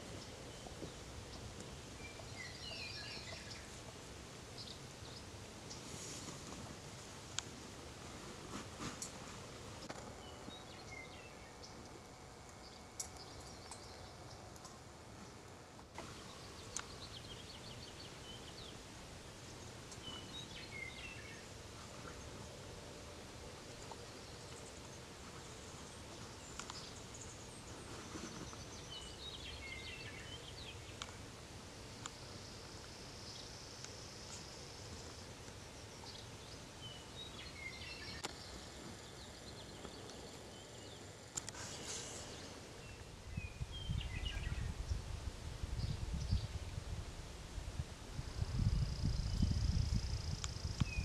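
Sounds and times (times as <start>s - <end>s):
outdoor background hiss: 0.0s - 51.0s.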